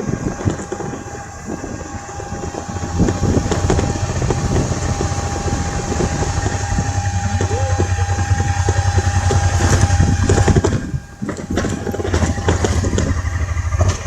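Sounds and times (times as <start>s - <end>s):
car engine humming: 0.0s - 14.0s
knocks and rattles: 0.1s - 14.0s.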